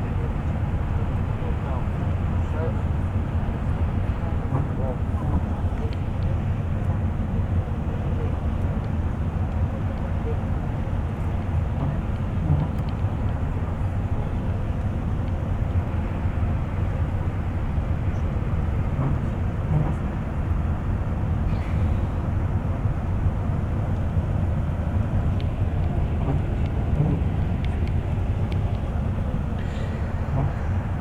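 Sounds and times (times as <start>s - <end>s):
bus engine and tyre rumble: 0.0s - 31.0s.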